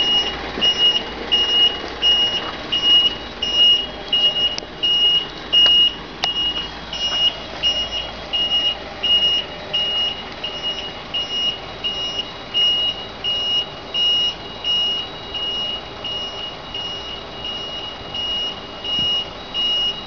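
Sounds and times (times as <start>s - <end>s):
truck engine humming: 0.0s - 20.0s
warning beeper beeping: 0.0s - 20.0s.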